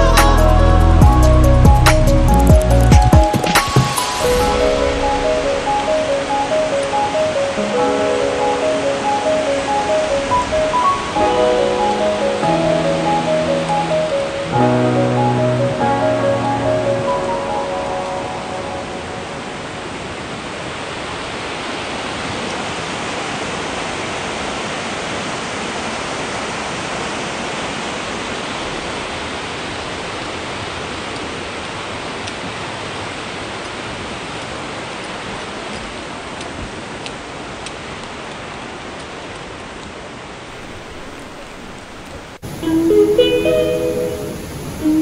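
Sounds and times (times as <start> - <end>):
rushing mountain stream: 0.0 - 45.0.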